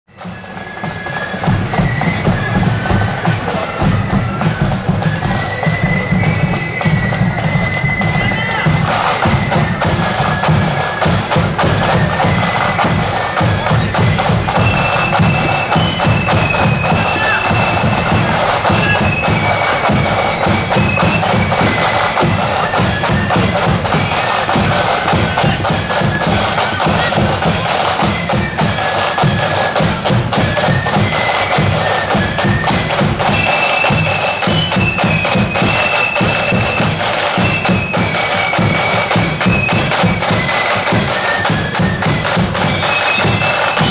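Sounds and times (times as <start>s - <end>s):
flute melody: 0.1s - 43.9s
side drums beating: 0.1s - 43.9s.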